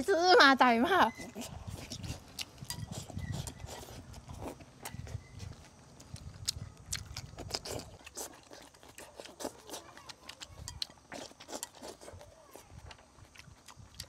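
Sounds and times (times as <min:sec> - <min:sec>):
chewing and eating sounds: 0:01.1 - 0:14.0.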